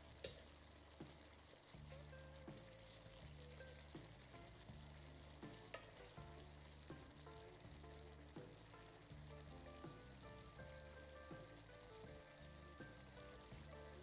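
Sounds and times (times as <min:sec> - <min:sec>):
food sizzling in a frying pan: 0:00.0 - 0:14.0
soft background music: 0:00.0 - 0:14.0.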